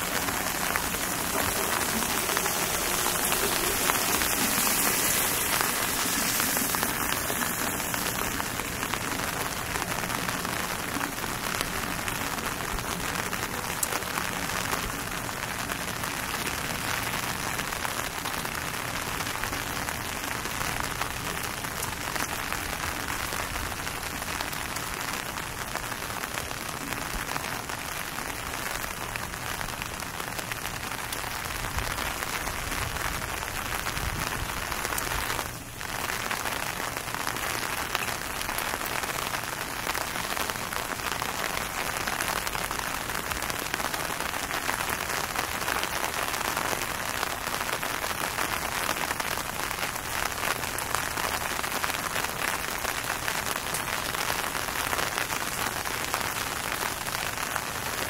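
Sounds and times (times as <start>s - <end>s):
rain on hard surfaces: 0.0s - 58.0s.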